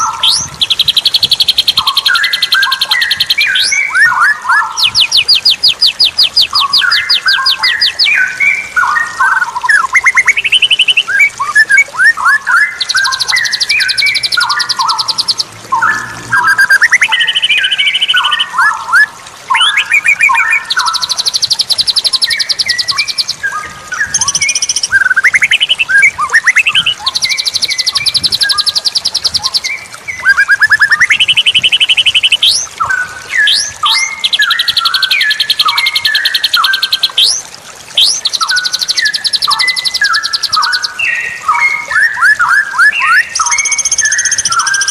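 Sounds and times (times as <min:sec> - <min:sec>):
bird singing: 0:00.0 - 0:37.4, 0:38.0 - 0:44.9.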